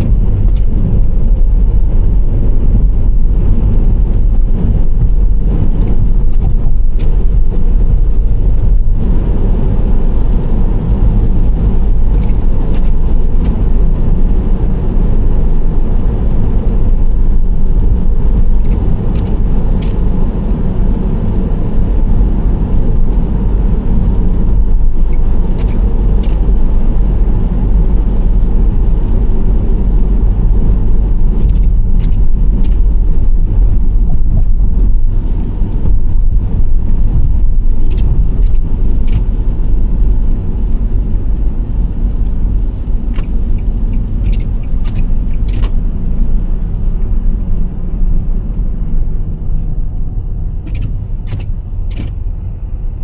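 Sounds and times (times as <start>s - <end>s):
minivan tyre and engine rumble: 0.0s - 53.0s.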